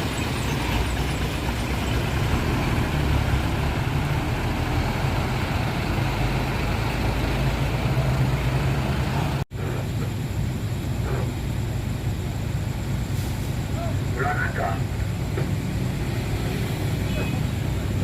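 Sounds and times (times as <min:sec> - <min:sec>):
diesel engines of buses and trucks: 0:00.0 - 0:18.0.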